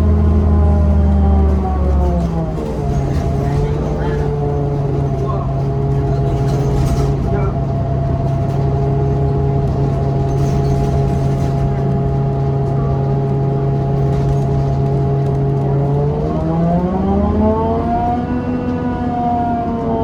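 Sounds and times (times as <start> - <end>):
bus drivetrain droning: 0.0 - 20.0.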